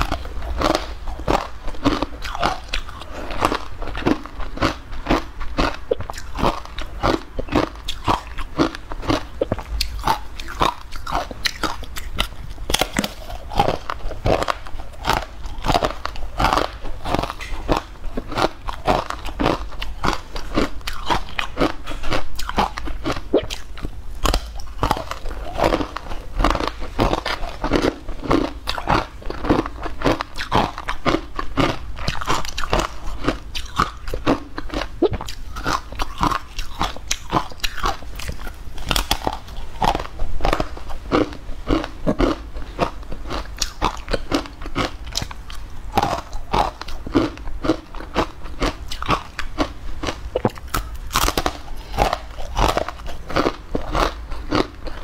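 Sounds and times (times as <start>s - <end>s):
crisp chewing crunches: 0.0s - 55.0s.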